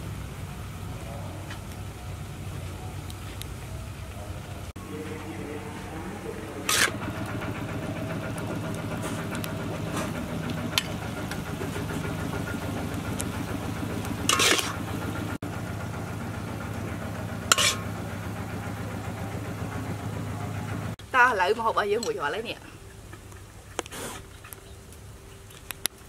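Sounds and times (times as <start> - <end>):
engine-like hum: 0.0 - 23.8.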